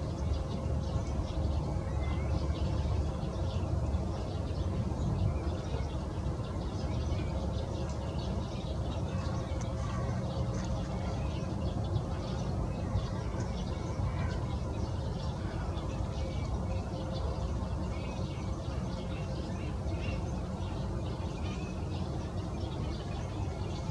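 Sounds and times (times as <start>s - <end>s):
faint hum: 0.0s - 23.9s.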